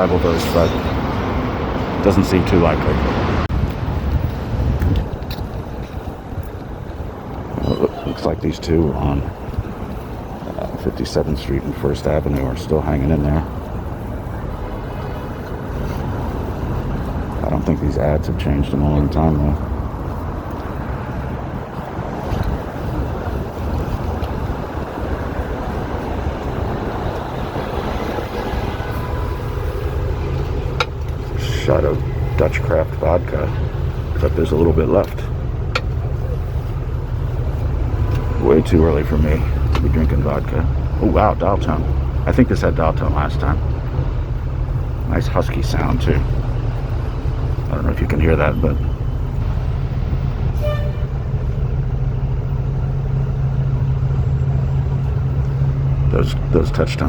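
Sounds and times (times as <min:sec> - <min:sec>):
wind buffeting microphone: 0:00.0 - 0:56.6
city street traffic rumble: 0:00.0 - 0:57.0.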